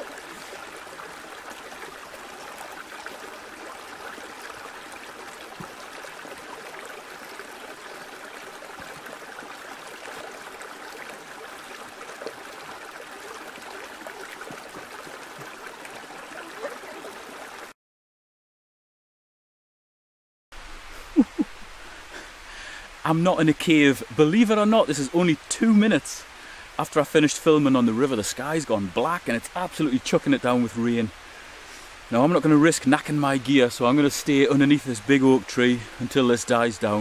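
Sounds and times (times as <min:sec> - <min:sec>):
river running over rocks: 0:00.0 - 0:17.7, 0:20.6 - 0:37.0.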